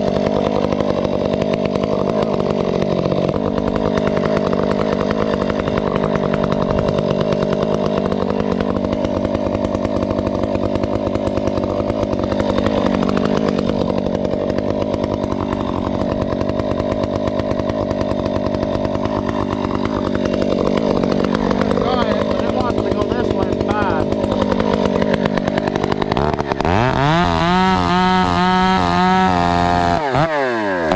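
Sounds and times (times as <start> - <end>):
chainsaw cutting tree: 0.0 - 30.9.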